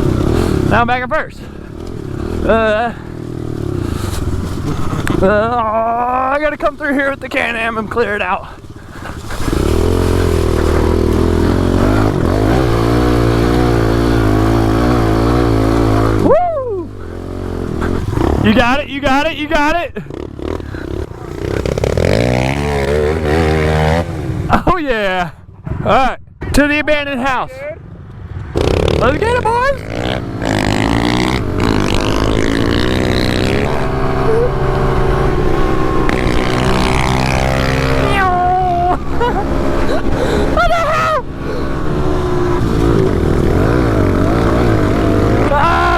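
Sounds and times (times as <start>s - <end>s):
motorbike engine running: 0.0s - 24.7s, 28.6s - 45.9s.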